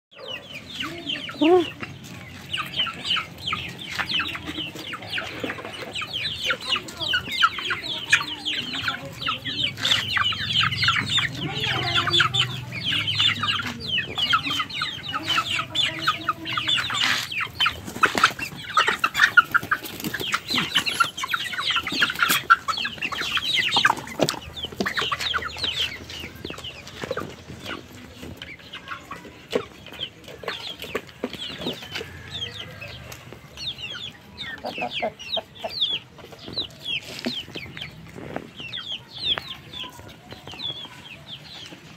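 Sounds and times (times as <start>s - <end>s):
chickens cheeping and clucking: 0.1s - 41.9s.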